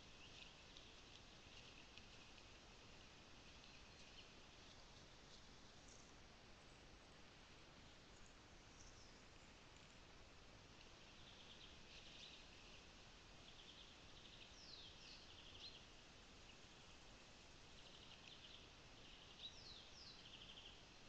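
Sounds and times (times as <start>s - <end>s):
faint birdsong: 0.0s - 21.0s
low steady hiss: 0.0s - 21.0s.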